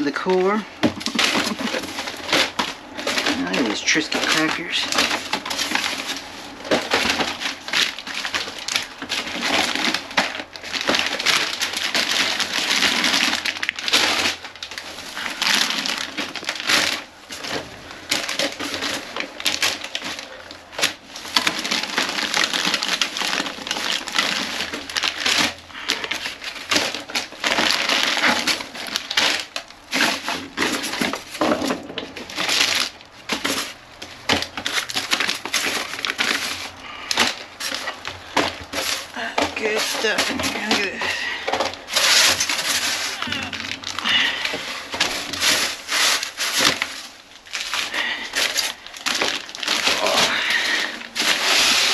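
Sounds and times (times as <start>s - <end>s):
plastic bags crinkling: 0.0s - 51.9s.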